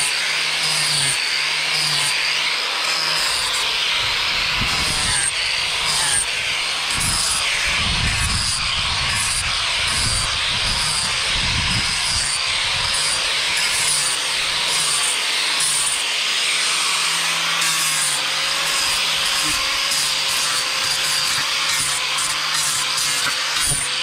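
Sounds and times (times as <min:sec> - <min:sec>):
angle grinder sanding wood: 0:00.0 - 0:24.0.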